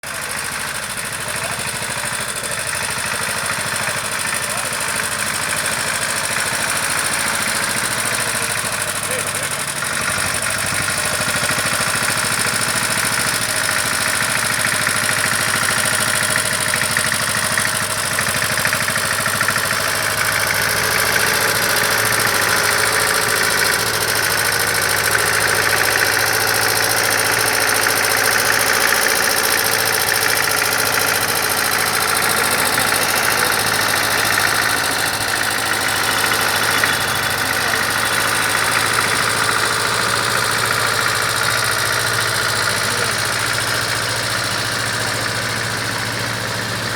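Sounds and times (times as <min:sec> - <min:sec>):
tractor diesel engine knocking: 0:00.0 - 0:46.9.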